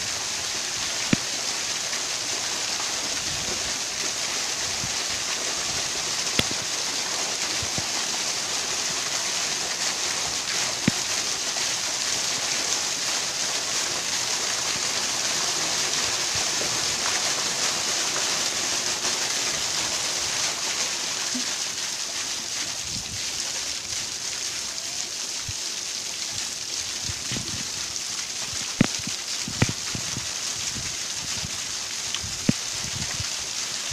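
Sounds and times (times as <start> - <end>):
small waterfall rushing: 0.0 - 33.9.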